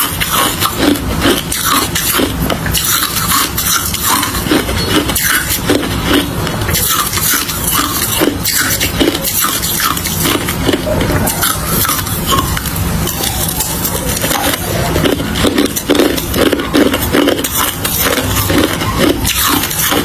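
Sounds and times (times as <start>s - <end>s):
hard ice being chewed: 0.0s - 20.0s.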